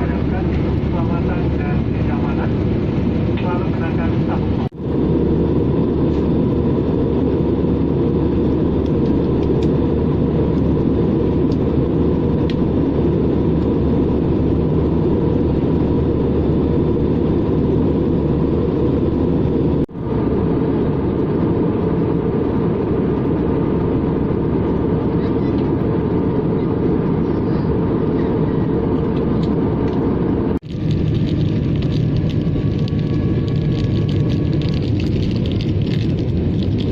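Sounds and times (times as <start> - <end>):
aircraft engine and airflow rumble: 0.0 - 36.9.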